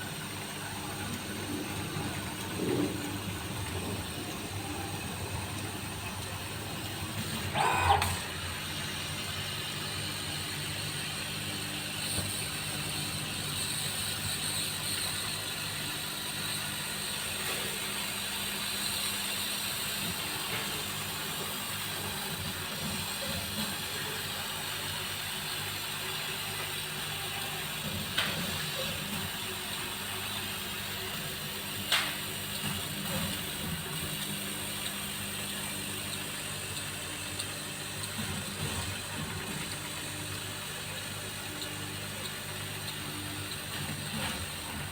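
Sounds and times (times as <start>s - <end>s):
laser cutter motors humming: 0.0s - 44.9s.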